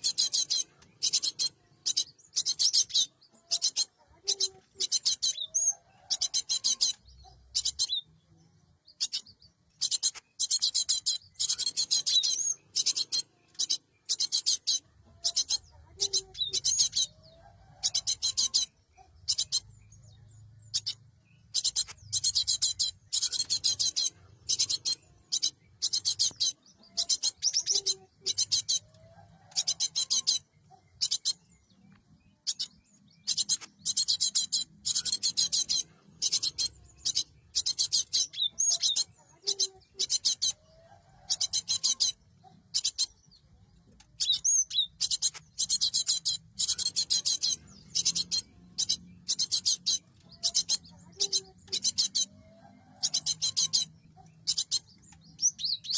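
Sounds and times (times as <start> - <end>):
bird chattering calls: 0.0 - 8.1, 8.9 - 55.9.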